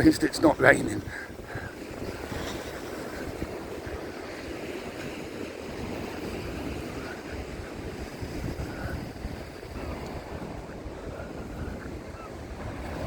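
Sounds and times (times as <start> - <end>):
rough sea breaking on shore: 0.0 - 13.0
wind buffeting microphone: 0.0 - 13.0.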